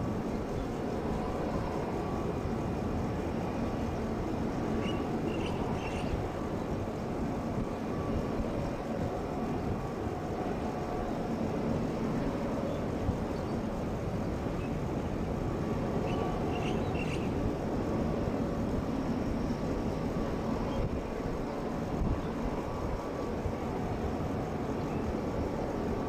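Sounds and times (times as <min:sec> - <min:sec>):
faint steady whine: 0:00.0 - 0:26.0
jet engines rumbling: 0:00.0 - 0:26.0.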